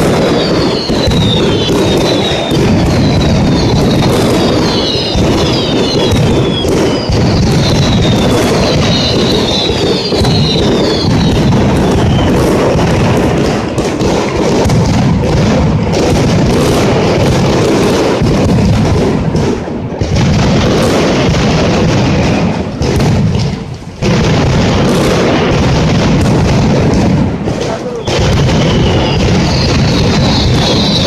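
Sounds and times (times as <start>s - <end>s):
firecracker barrage: 0.0s - 31.0s.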